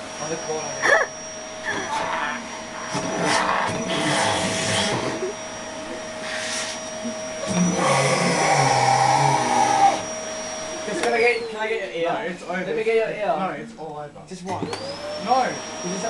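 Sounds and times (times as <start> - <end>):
vacuum cleaner motor whine: 0.0 - 12.3, 14.5 - 16.0.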